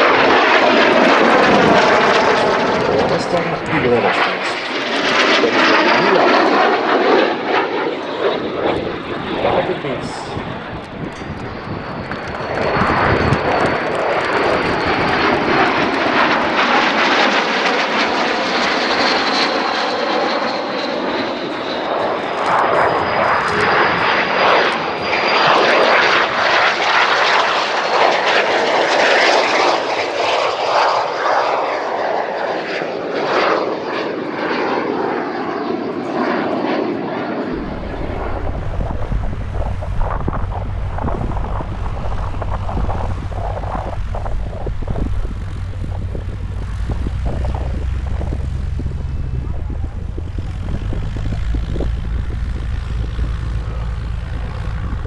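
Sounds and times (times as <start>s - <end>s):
aircraft flying over: 0.0s - 55.0s.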